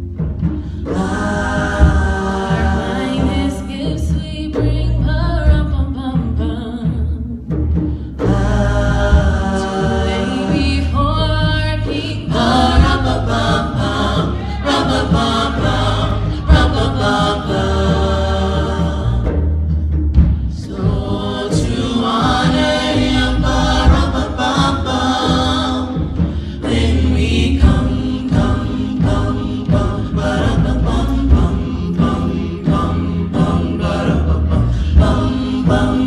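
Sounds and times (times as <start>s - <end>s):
voices singing together: 0.0s - 5.5s, 8.2s - 19.8s, 20.5s - 36.0s
heavy bass and drum: 0.0s - 36.0s.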